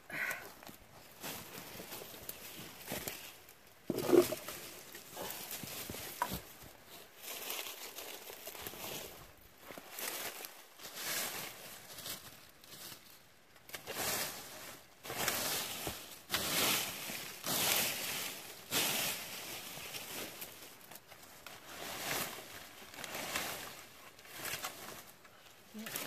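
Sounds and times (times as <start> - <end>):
rake dragging through dry leaves: 1.0 - 25.2.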